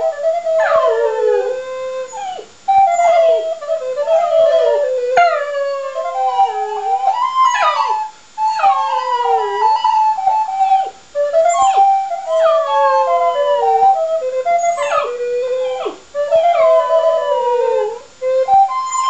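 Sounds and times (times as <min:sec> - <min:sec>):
dog howling: 0:00.0 - 0:19.0
recorder melody: 0:00.0 - 0:19.0.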